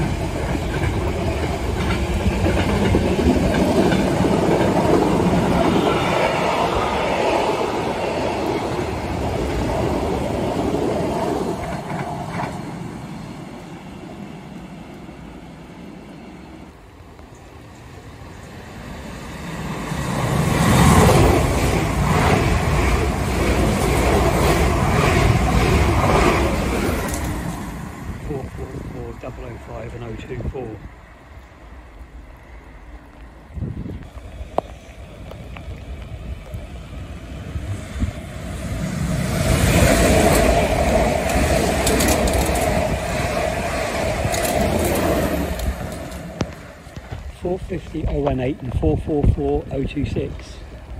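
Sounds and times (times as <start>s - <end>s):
distant freight train rumble: 0.0s - 50.9s
train passing fast: 0.0s - 50.9s.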